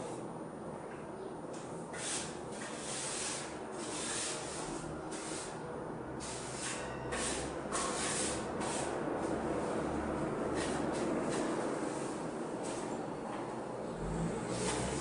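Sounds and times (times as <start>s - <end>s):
broom sweeping concrete floor: 1.8s - 13.0s, 14.0s - 15.0s.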